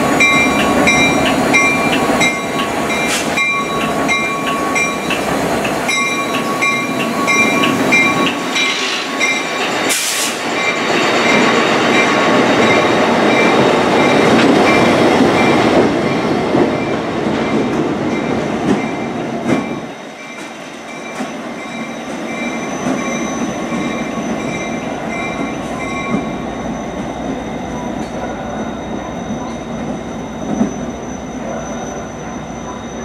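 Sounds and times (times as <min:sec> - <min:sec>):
diesel train rumbling past: 0:00.0 - 0:33.0.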